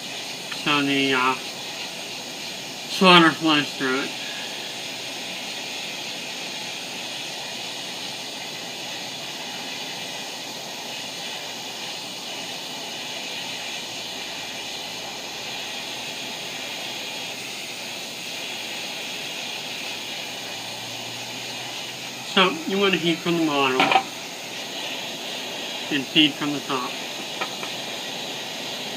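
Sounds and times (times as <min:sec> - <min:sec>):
gas torch hissing: 0:00.0 - 0:28.9.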